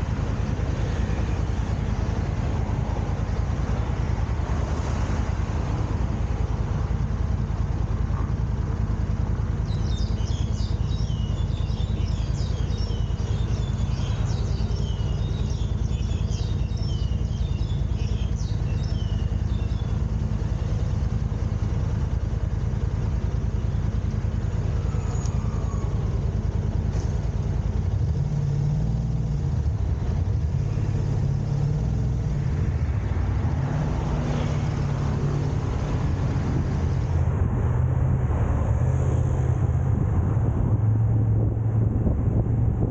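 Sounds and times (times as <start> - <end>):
car driving rumble: 0.0 - 42.9.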